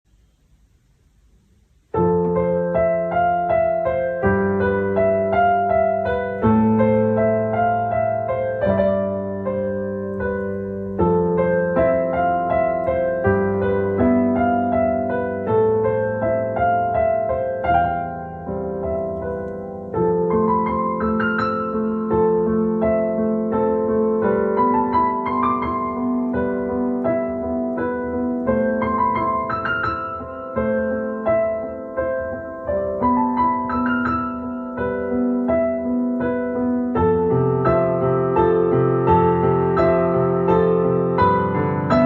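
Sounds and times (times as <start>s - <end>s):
solo piano music: 0.1s - 42.0s.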